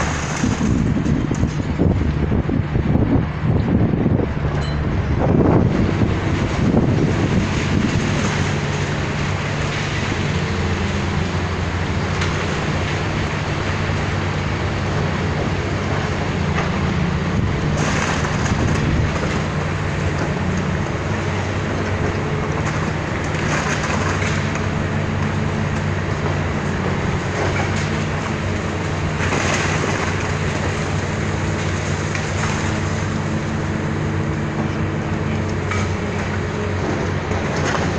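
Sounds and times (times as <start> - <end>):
diesel engine running: 0.0 - 37.9
rough mechanical noise: 0.0 - 37.9.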